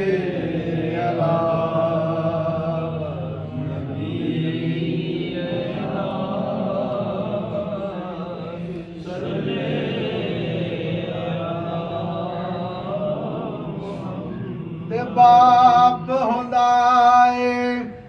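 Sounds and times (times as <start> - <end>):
voices chanting together: 0.0 - 18.0.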